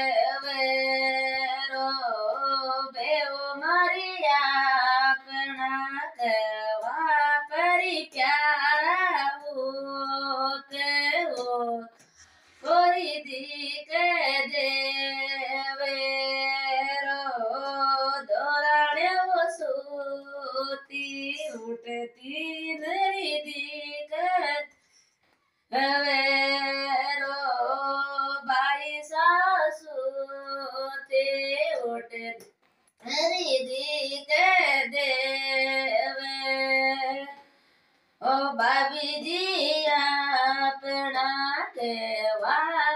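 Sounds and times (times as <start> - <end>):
woman singing unaccompanied: 0.0 - 12.0, 12.6 - 24.7, 25.7 - 32.4, 33.5 - 37.4, 38.2 - 42.9.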